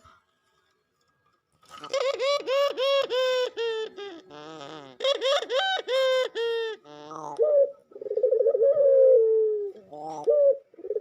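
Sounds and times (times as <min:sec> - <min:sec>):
dove laughing call: 0:01.8 - 0:11.0.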